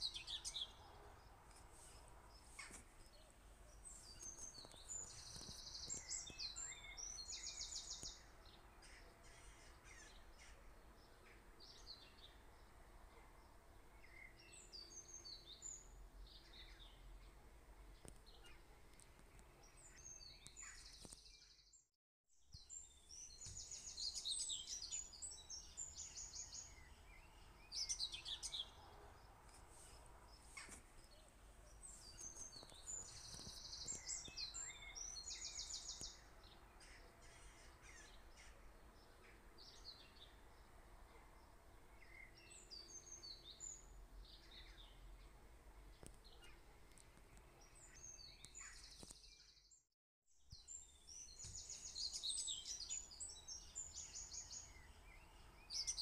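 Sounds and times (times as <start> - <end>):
birds chirping and trilling: 2.3 - 12.8, 13.4 - 21.8, 22.5 - 40.7, 47.3 - 49.8, 50.5 - 56.0.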